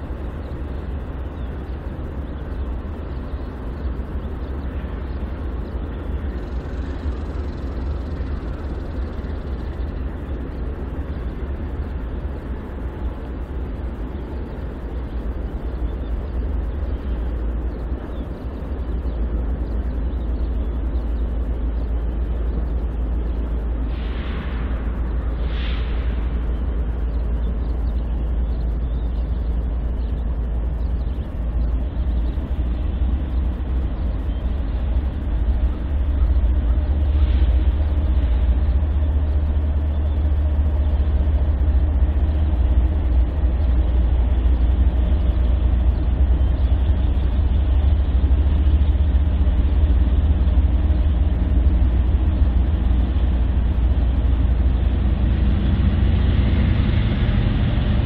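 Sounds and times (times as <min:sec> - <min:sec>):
diesel locomotive engines rumbling: 0:00.0 - 0:58.0.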